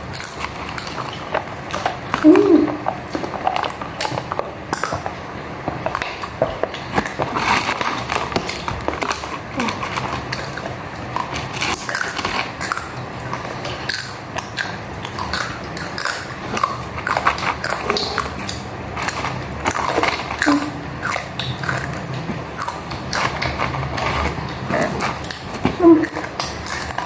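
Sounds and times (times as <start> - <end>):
food being bitten and chewed: 0.0 - 27.0.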